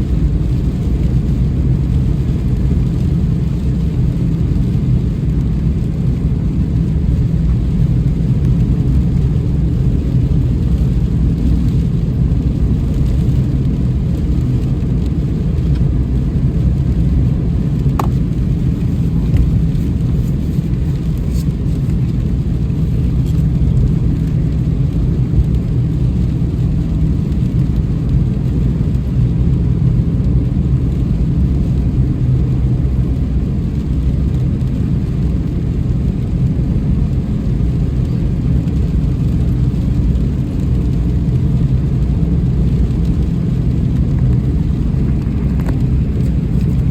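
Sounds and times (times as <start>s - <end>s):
car driving in rain: 0.0s - 46.9s.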